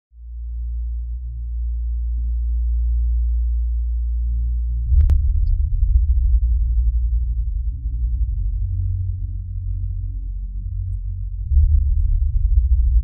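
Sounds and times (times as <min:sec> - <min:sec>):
synthesized bass drone: 0:00.2 - 0:13.0.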